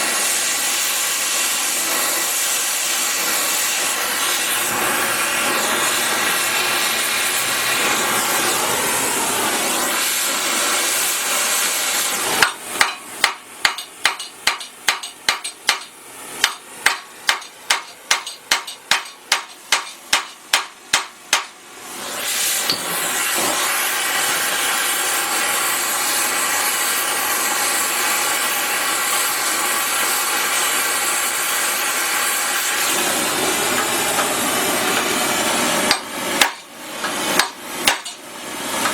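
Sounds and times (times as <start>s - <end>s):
gas torch hissing: 0.0s - 38.9s.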